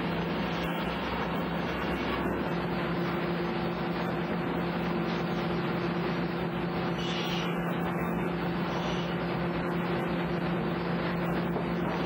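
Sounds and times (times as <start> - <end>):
sawmill machinery drone: 0.0 - 12.0.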